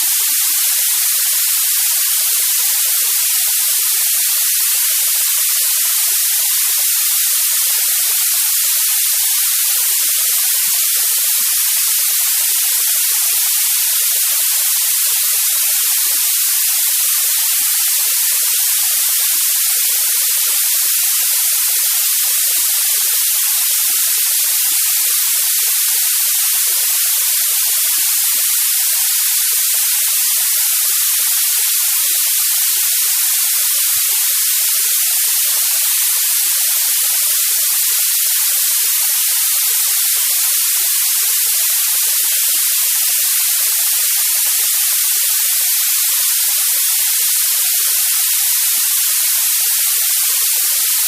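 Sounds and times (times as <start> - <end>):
white noise hiss: 0.0 - 51.0.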